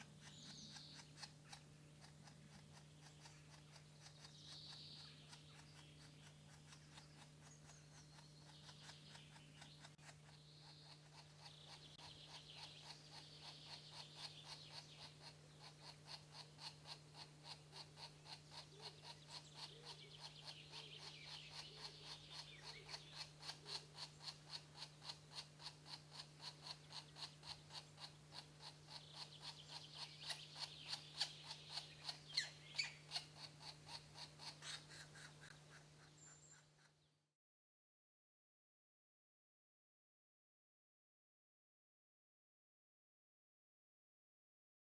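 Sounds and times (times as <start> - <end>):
nestlings begging calls: 0.0 - 36.9
steady low hum: 0.0 - 37.0.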